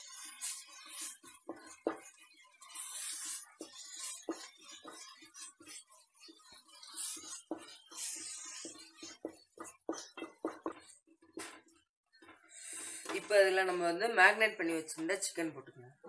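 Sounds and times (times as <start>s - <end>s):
spatula scraping metal pot: 0.0s - 14.1s.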